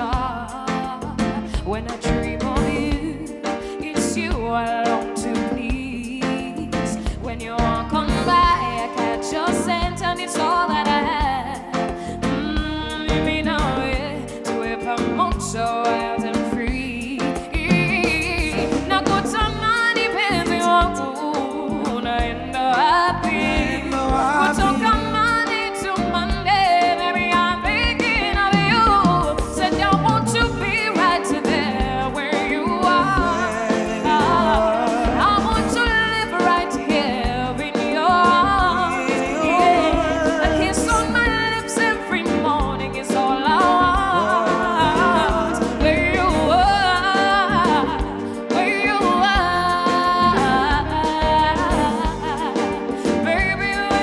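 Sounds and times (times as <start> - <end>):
live band music: 0.0 - 54.0
person singing: 0.0 - 54.0.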